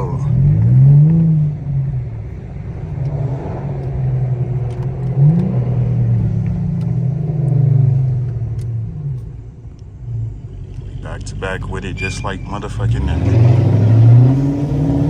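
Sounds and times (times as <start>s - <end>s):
car exhaust droning: 0.0s - 15.0s.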